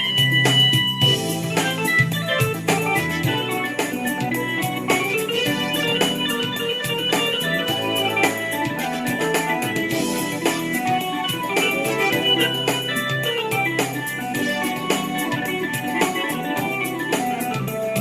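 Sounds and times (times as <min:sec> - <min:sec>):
bass line: 0:00.0 - 0:18.0
drums steady beat: 0:00.0 - 0:18.0
organ-like keyboard chords: 0:00.0 - 0:18.0.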